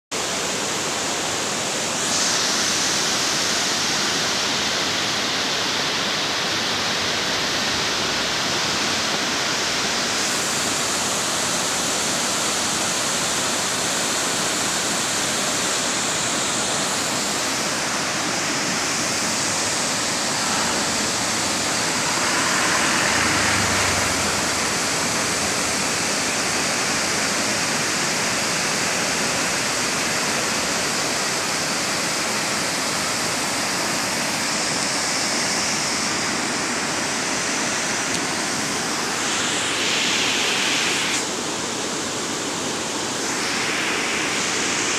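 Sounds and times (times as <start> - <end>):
waterfall rushing over rocks: 0.2 - 44.9.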